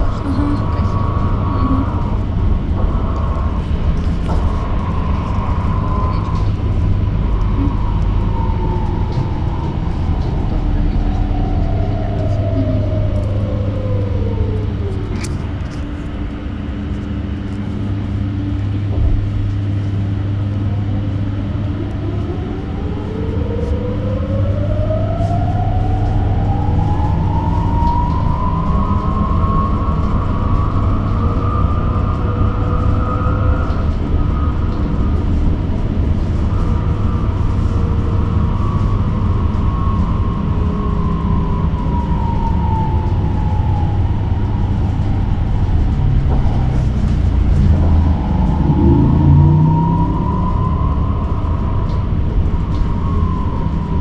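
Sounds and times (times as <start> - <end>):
electric bus motor whining: 0.0 - 54.0
low hum: 0.0 - 54.0.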